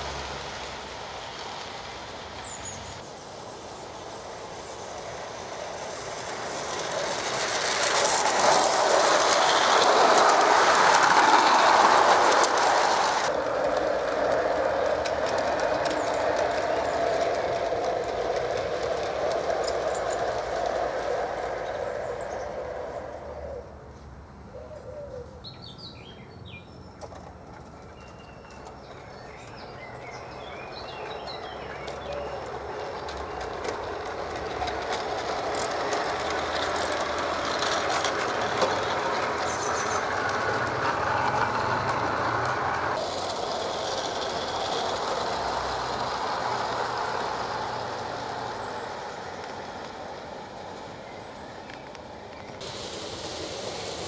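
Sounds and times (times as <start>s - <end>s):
model train wheels rumbling and clicking: 0.0s - 23.7s, 26.8s - 54.0s
birds chirping: 0.6s - 23.8s, 24.4s - 52.7s.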